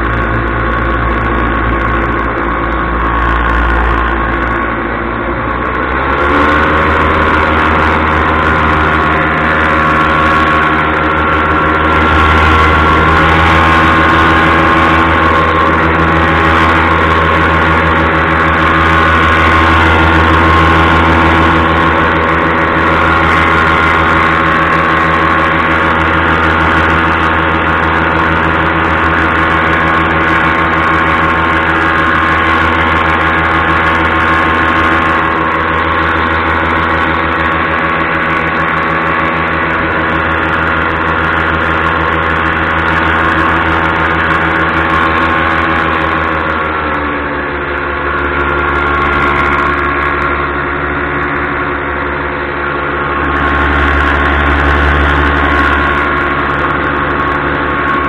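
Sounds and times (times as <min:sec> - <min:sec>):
paramotor engine drone: 0:00.0 - 0:58.0.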